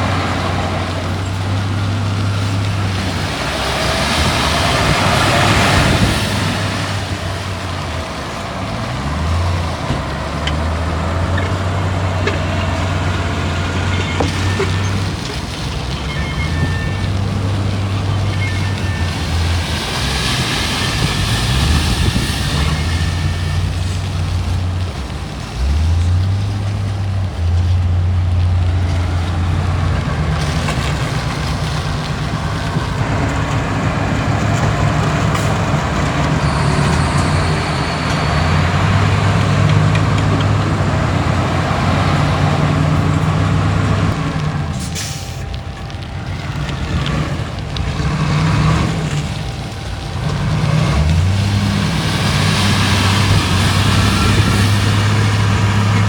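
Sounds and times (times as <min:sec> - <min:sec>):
heavy diesel machinery engine: 0:00.0 - 0:56.0.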